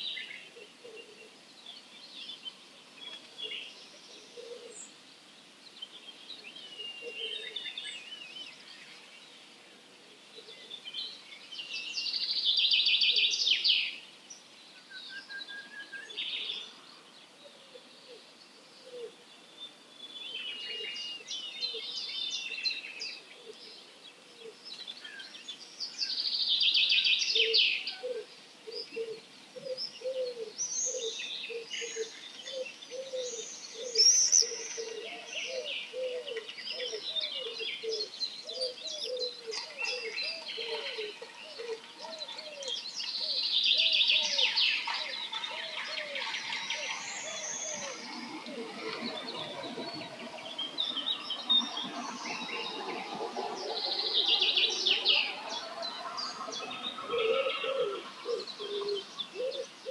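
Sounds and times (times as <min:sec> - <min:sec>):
songbirds singing and calling: 0:00.0 - 0:59.9.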